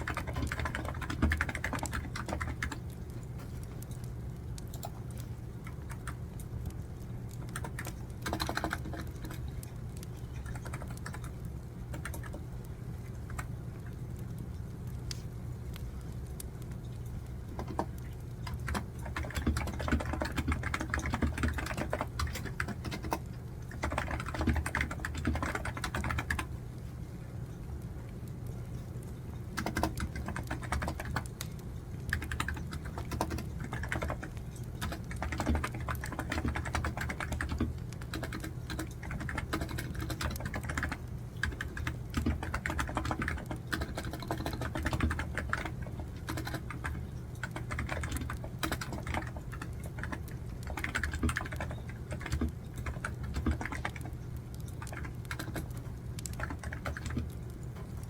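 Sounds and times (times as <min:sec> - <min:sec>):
keyboard typing clicks: 0:00.0 - 0:12.4, 0:13.1 - 0:14.0, 0:16.6 - 0:26.5, 0:29.0 - 0:58.0
steady low hum: 0:00.0 - 0:58.0.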